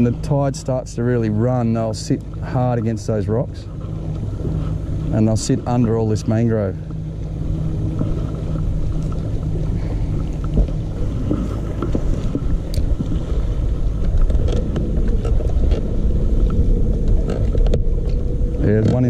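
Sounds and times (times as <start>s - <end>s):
faint steady hum: 0.0s - 19.0s
low boat rumbling: 0.0s - 19.0s.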